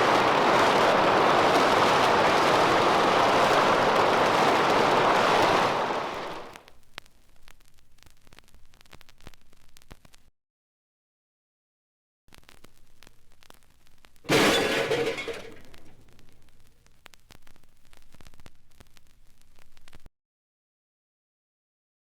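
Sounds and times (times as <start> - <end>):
vinyl record crackle: 0.0 - 10.3, 12.3 - 20.1.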